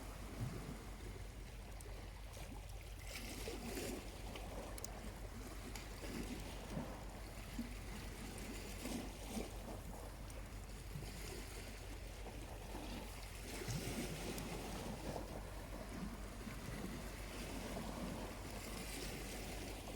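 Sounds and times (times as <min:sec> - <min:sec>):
small waves lapping at shore: 0:00.0 - 0:19.9.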